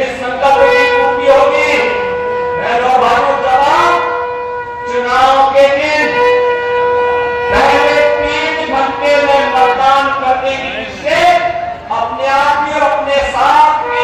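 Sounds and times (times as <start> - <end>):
man speaking over loudspeaker: 0.0 - 14.0.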